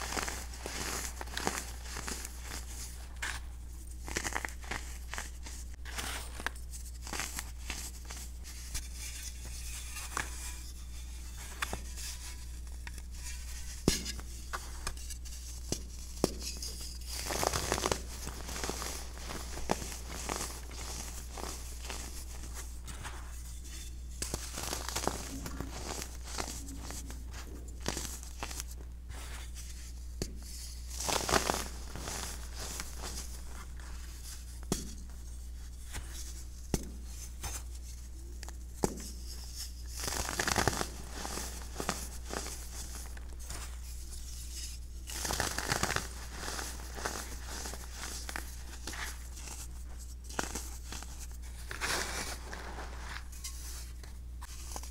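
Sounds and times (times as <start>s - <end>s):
powder clumps crunching: 0.0s - 8.6s, 13.4s - 35.2s, 39.8s - 54.9s
steady low hum: 0.0s - 54.9s.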